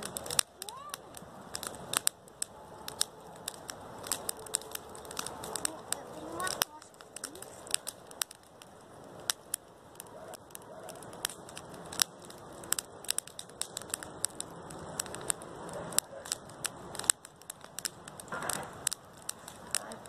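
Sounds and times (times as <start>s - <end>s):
campfire crackling: 0.0s - 20.0s
soft rush of flame: 0.0s - 20.0s.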